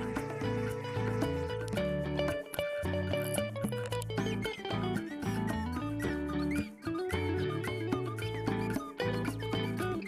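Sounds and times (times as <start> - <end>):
bouncy tune with bass line: 0.0 - 10.0.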